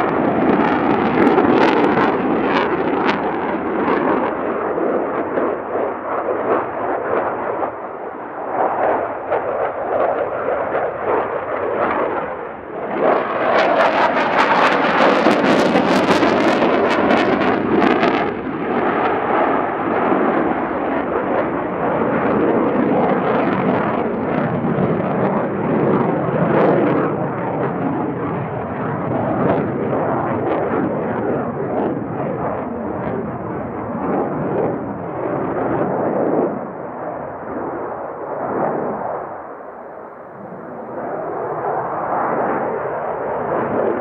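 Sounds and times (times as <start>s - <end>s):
jet engines with afterburner: 0.0s - 44.0s.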